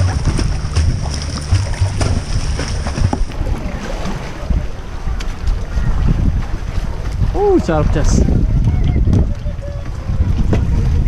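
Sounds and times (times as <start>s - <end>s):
paddle splashing water: 0.0s - 11.0s
wind rumbling on microphone: 0.0s - 11.0s.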